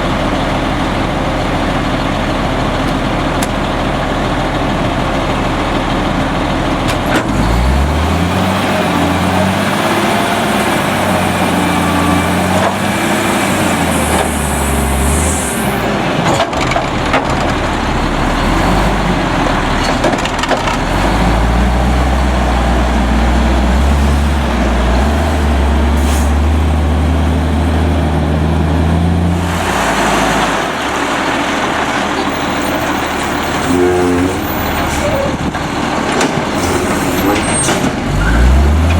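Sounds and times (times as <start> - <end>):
truck diesel engine revving: 4.6 - 16.2, 16.9 - 38.9.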